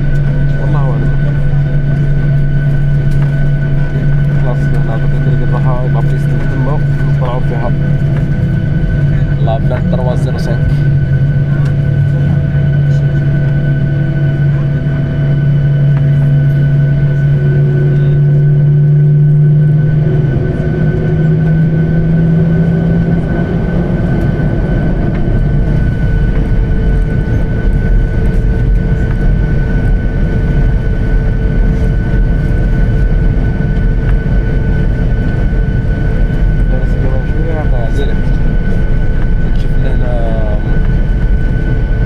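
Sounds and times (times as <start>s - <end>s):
jet engines humming and whining: 0.0s - 42.0s.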